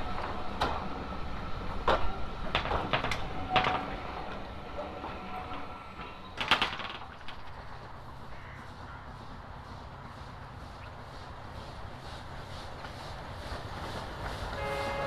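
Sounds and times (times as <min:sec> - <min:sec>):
train wheels clanking over joints: 0:00.0 - 0:15.0.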